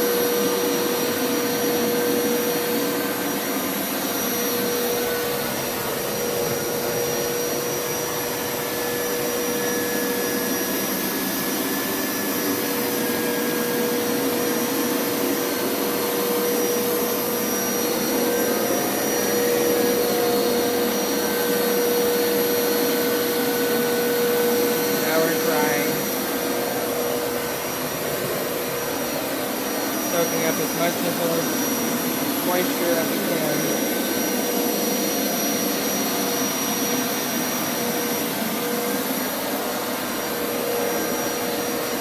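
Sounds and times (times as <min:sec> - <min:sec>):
carpet washer motor whine: 0:00.0 - 0:42.0.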